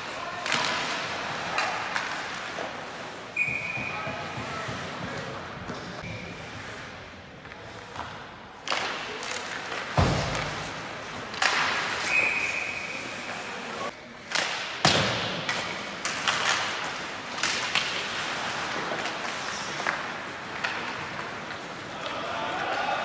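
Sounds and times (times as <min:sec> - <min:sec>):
skates scraping ice: 0:00.0 - 0:23.0.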